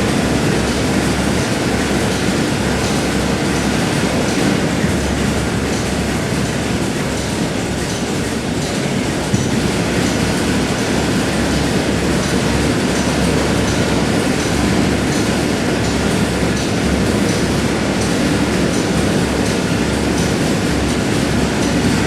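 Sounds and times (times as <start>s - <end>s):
industrial machinery rumble: 0.0s - 22.0s.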